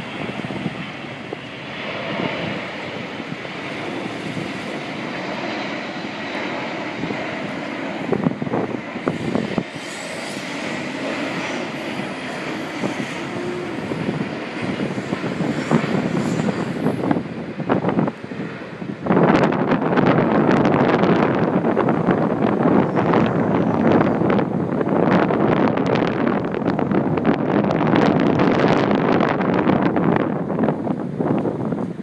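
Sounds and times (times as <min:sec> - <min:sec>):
high whine wavering in pitch: 0:00.0 - 0:32.0
jet airliner passing overhead: 0:00.0 - 0:32.0.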